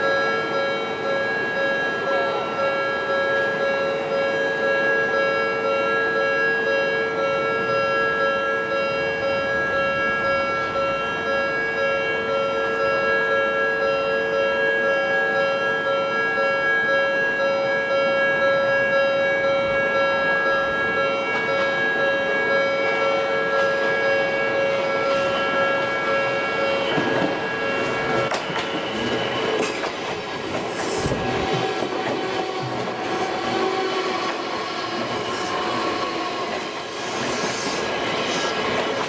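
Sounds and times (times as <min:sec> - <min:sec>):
level crossing warning bells: 0:00.0 - 0:39.0.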